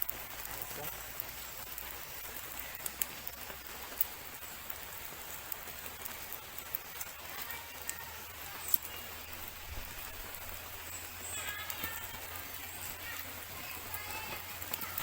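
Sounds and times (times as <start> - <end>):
light drizzle pattering: 0.0 - 15.0.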